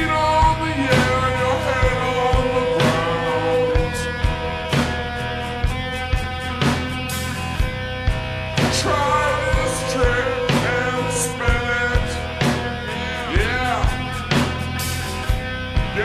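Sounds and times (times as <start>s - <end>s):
rock music: 0.0s - 16.0s
steady drum beat: 0.0s - 16.0s.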